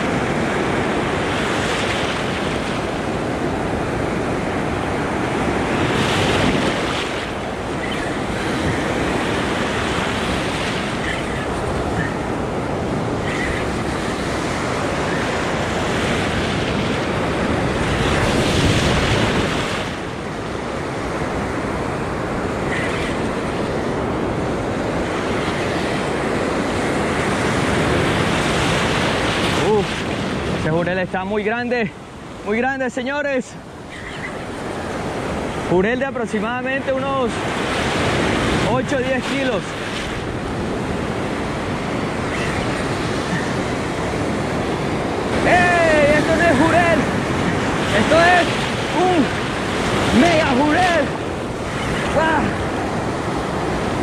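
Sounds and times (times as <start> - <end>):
surf breaking in shallows: 0.0 - 54.0.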